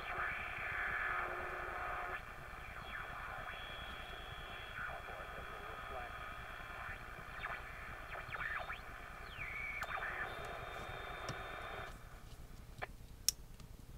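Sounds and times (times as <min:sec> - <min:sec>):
radio static and gliding whistles: 0:00.0 - 0:11.9.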